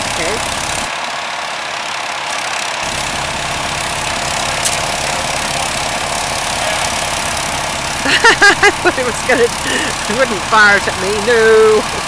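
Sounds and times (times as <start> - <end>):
blower churning snow: 0.0 - 12.0
snow blower engine running: 0.0 - 12.0
utility vehicle engine: 0.0 - 12.0.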